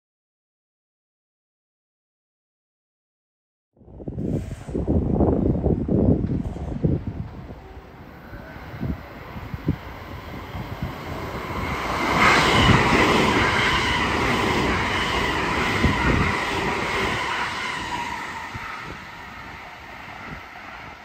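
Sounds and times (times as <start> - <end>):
electric train passing at speed: 3.8 - 21.0.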